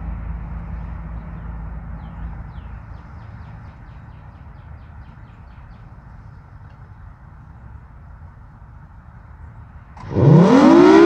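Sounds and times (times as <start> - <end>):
vehicle passing rumble: 0.0 - 11.0.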